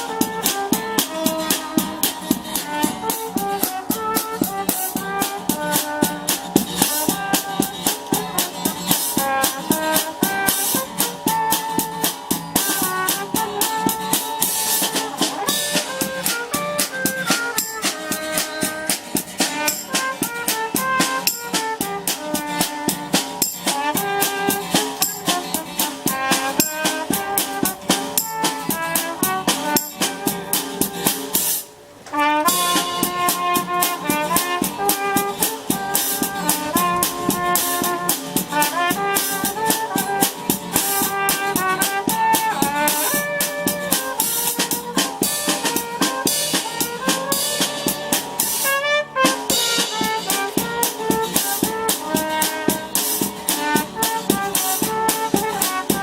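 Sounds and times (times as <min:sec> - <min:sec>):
band music with brass and drums: 0:00.0 - 0:56.0.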